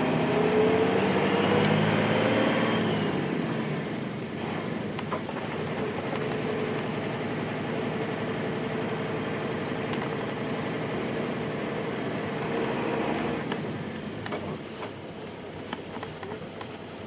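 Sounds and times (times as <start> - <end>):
bus diesel engine running: 0.0 - 17.0
steady whine: 0.0 - 17.0.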